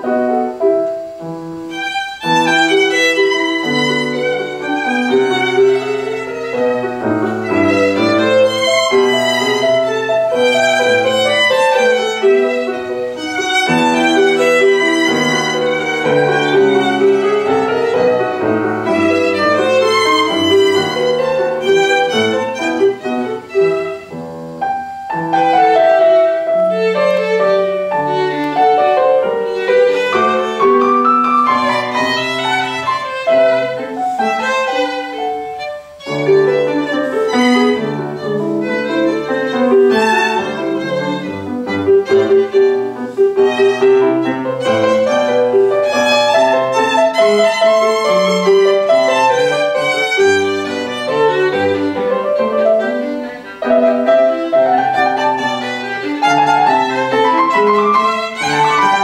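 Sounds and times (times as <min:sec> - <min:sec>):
violin and piano sonata: 0:00.0 - 0:59.0.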